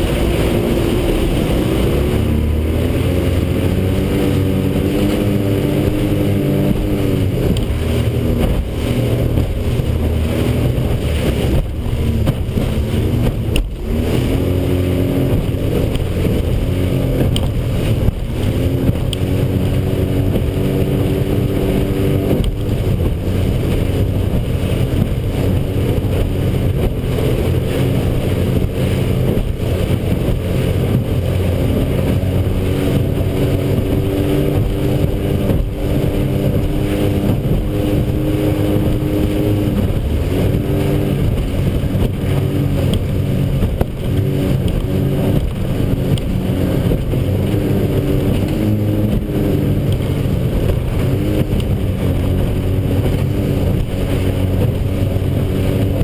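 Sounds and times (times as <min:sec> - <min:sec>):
outboard engine running hard: 0:00.0 - 0:56.0
water rushing: 0:00.0 - 0:56.0.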